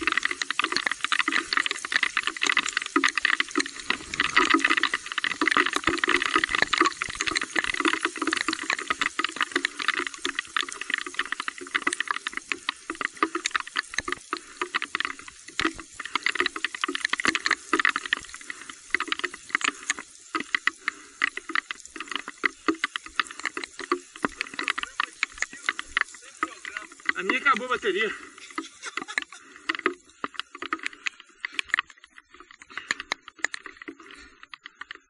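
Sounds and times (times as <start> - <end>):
heavy rain falling: 0.0 - 34.4.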